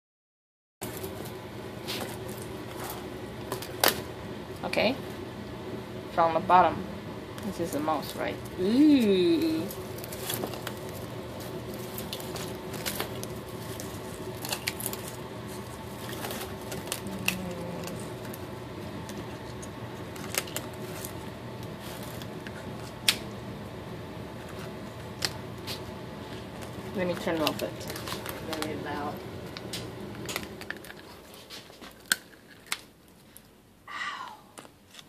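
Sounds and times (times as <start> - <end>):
steady hum: 0.8 - 35.0.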